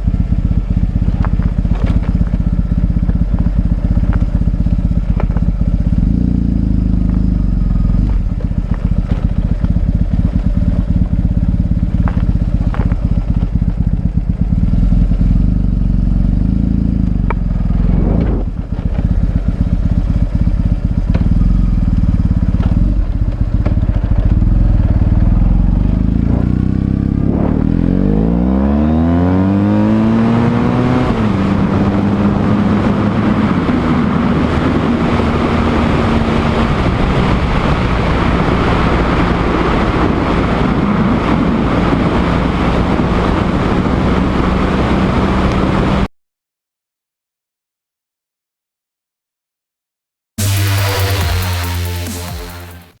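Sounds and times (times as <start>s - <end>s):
motorcycle engine running: 0.0s - 46.1s, 50.4s - 53.0s.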